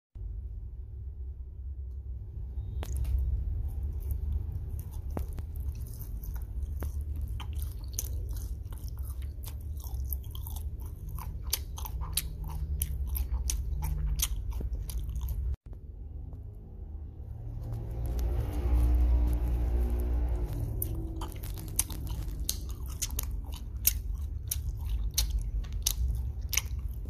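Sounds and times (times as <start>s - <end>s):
steady low rumble: 0.2s - 27.0s
wet chewing mouth clicks: 2.8s - 15.6s, 17.5s - 27.0s.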